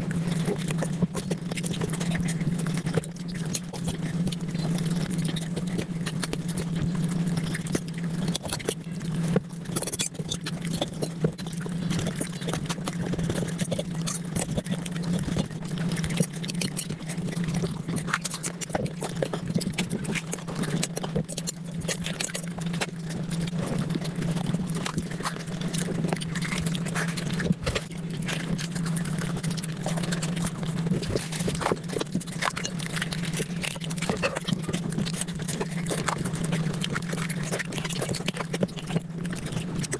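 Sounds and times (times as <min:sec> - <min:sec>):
sped-up chewing and crunching: 0:00.0 - 0:39.9
steady low hum: 0:00.0 - 0:39.9.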